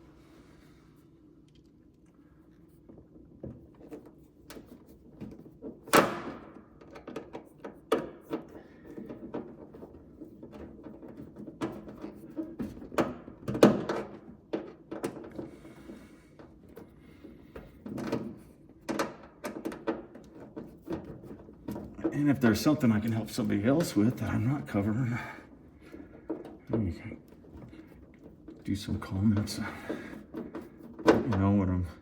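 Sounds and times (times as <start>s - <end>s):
knocks clunks and clicks: 2.9s - 31.8s.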